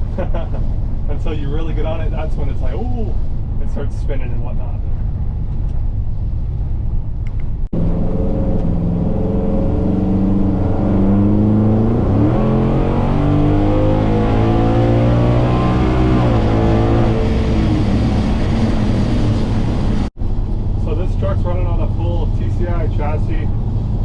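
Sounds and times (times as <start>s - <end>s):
engine rumble with gear shifts: 0.0s - 24.0s.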